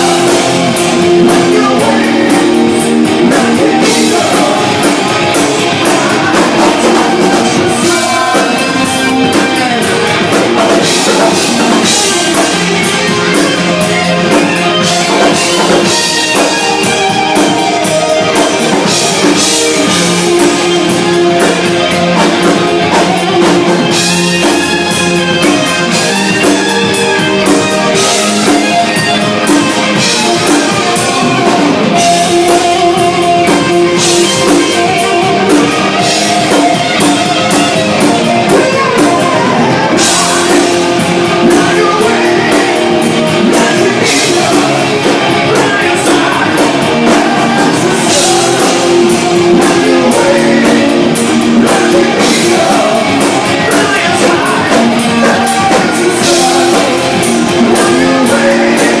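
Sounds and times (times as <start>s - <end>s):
drum kit with crashing cymbals: 0.0s - 59.0s
electric guitar: 0.0s - 59.0s.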